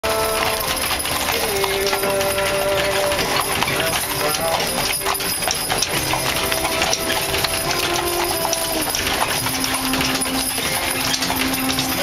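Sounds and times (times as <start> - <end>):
hooves clip-clopping on dirt: 0.0 - 12.0
metal harness jingling: 0.1 - 12.0.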